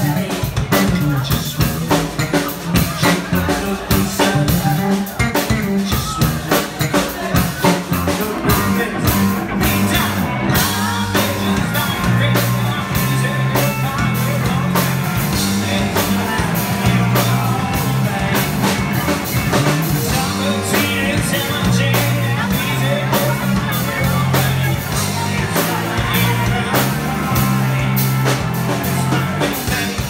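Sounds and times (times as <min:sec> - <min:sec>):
live rock band playing: 0:00.0 - 0:30.0
person singing: 0:00.0 - 0:30.0
prominent bass line: 0:00.0 - 0:30.0
steady drum beat: 0:00.0 - 0:30.0.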